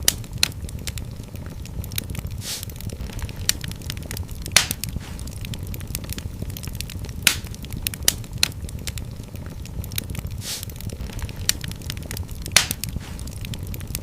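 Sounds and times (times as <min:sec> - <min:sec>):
fire hissing: 0:00.0 - 0:14.0
fireplace fire crackling and popping: 0:00.0 - 0:14.0.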